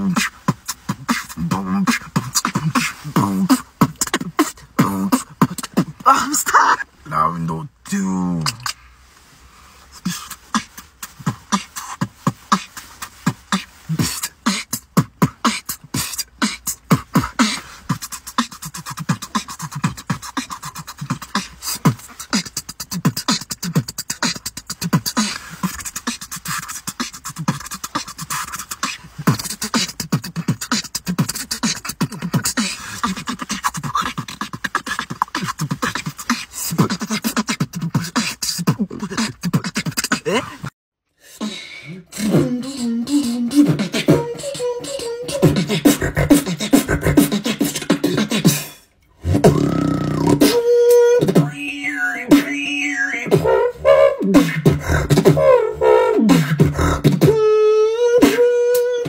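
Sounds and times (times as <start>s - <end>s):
beatboxing: 0.0s - 8.9s, 9.8s - 59.0s.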